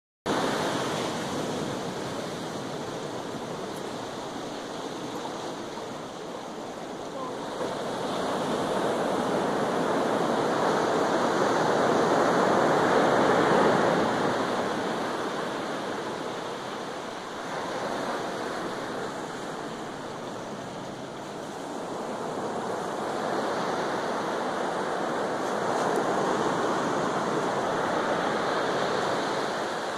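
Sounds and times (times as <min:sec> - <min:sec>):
ocean surf breaking: 0:00.3 - 0:29.9.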